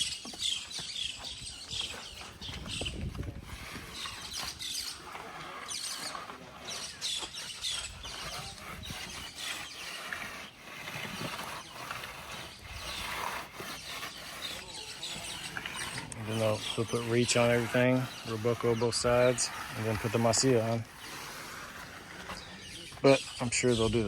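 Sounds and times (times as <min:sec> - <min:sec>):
hand tools scraping and tapping masonry: 0:00.0 - 0:24.0.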